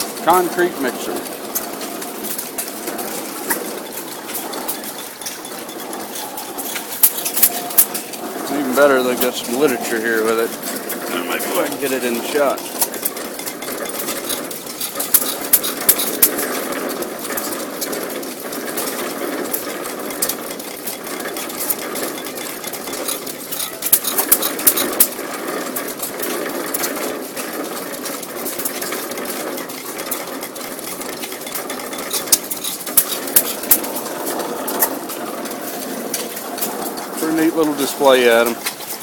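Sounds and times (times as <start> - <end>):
engine running a concrete mixer: 0.0 - 39.0.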